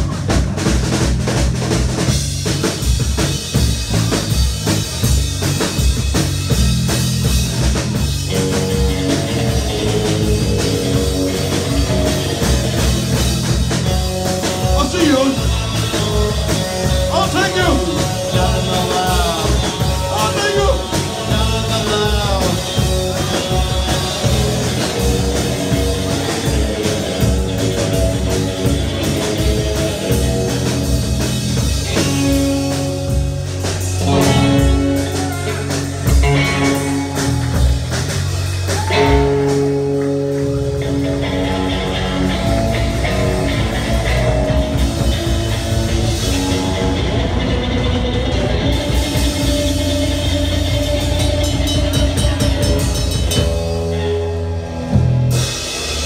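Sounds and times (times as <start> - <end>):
steady drumming: 0.0 - 54.4
live rock band playing: 0.0 - 56.0
bending guitar notes: 3.5 - 56.0.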